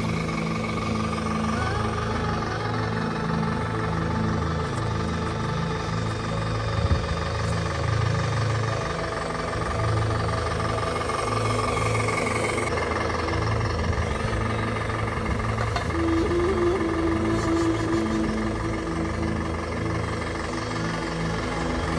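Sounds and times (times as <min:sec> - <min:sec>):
rc crawler motor rumble: 0:00.0 - 0:21.9.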